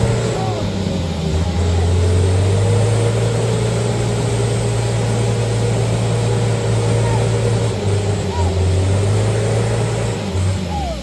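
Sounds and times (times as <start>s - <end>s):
diesel truck engine straining: 0.0s - 11.0s.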